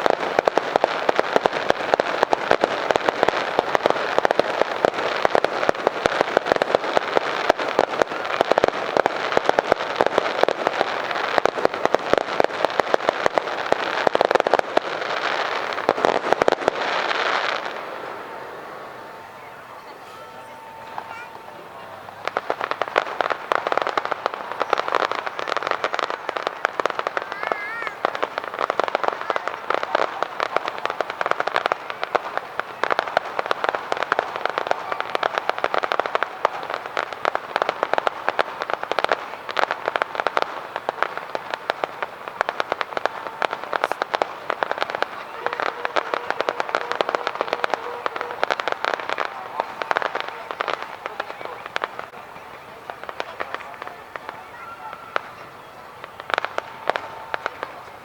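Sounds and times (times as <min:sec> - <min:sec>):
fireworks popping and crackling: 0:00.0 - 0:58.0.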